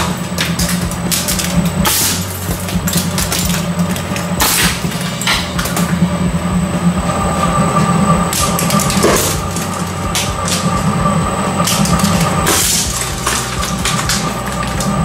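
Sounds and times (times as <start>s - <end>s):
sharp cracks and clatters: 0.0s - 6.2s, 8.3s - 15.0s
shredder motor humming: 0.0s - 15.0s
thin whine: 0.0s - 15.0s.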